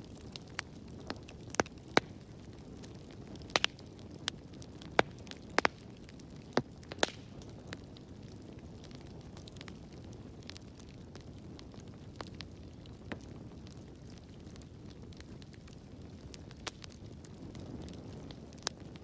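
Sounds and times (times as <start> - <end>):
low noise of burning: 0.0 - 19.0
wood fire crackling and popping: 0.0 - 19.0.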